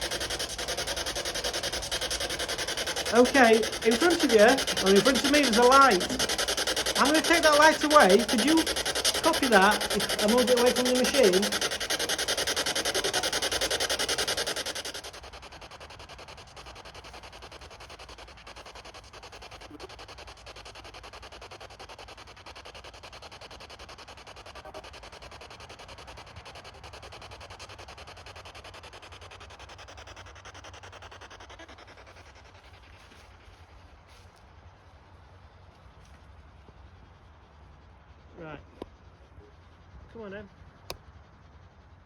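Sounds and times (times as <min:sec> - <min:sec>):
pulsing static hiss: 0:00.0 - 0:42.0.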